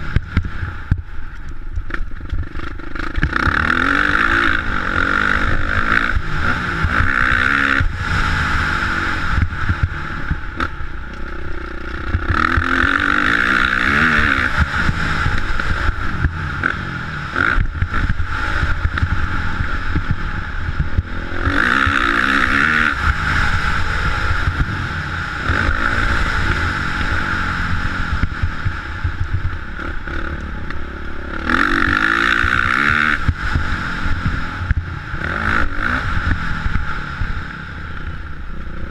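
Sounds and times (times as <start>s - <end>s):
motocross bike engine revving: 1.9s - 38.9s.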